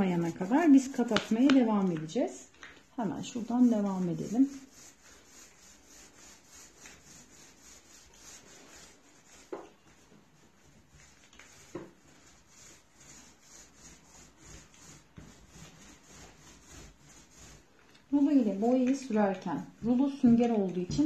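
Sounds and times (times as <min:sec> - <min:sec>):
paint roller rubbing on panel: 0:00.0 - 0:02.3, 0:02.9 - 0:21.0.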